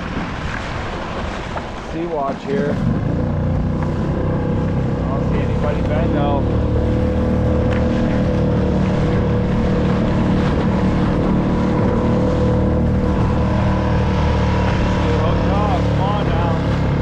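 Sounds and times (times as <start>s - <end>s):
outboard motor running: 0.0s - 17.0s
water splashing along hull: 0.0s - 17.0s.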